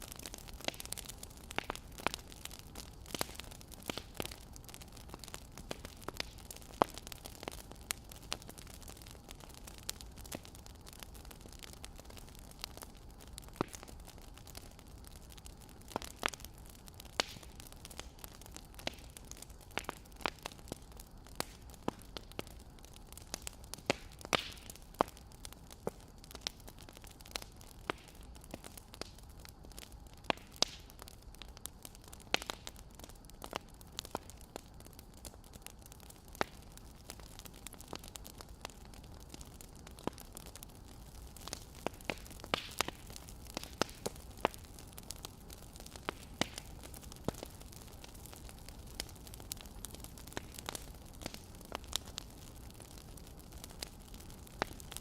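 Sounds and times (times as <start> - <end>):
low hiss: 0.0 - 55.0
wood fire crackling: 0.0 - 55.0.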